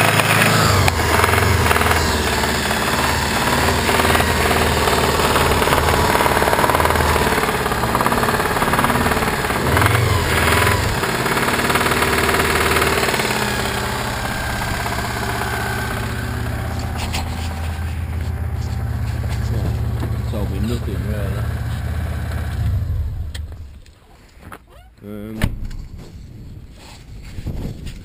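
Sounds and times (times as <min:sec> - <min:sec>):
engine knocking: 0:00.0 - 0:22.8
car engine running: 0:00.0 - 0:23.9.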